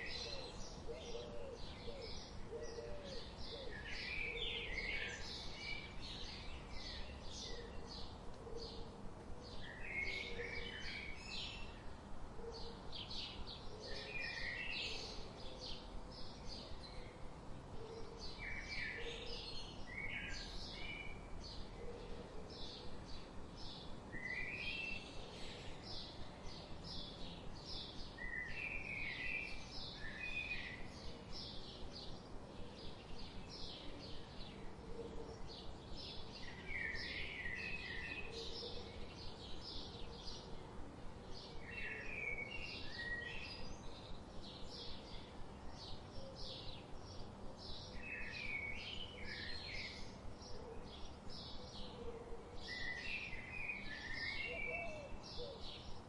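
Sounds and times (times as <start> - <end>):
faint steady hiss: 0.0 - 56.0
songbirds chirping: 0.0 - 56.0.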